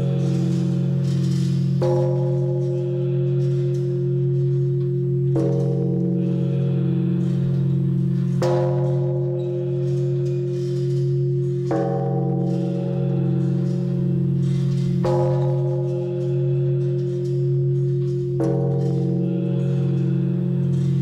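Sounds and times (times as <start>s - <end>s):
large bell struck with log: 0.0s - 21.0s.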